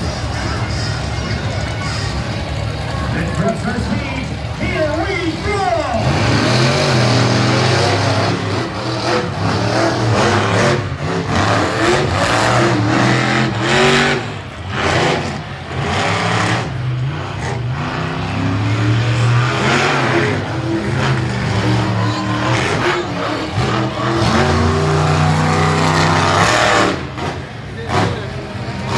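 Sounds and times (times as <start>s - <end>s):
monster truck engine revving: 0.0s - 28.9s.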